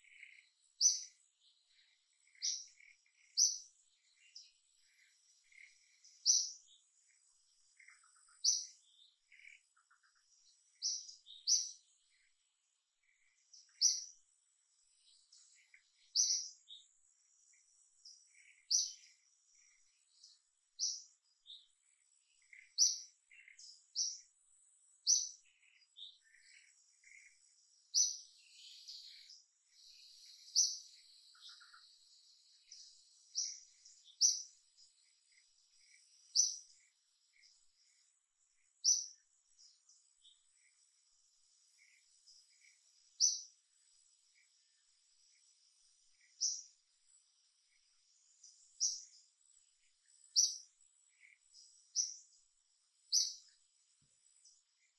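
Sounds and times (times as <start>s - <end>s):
bird chirping: 0.0s - 54.9s.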